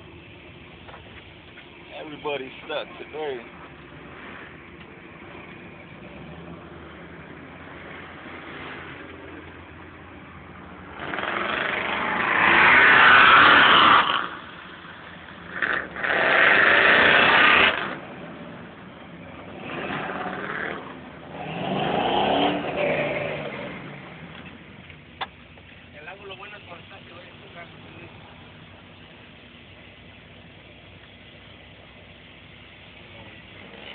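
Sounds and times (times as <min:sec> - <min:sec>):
off-road truck engines revving: 0:00.0 - 0:33.9.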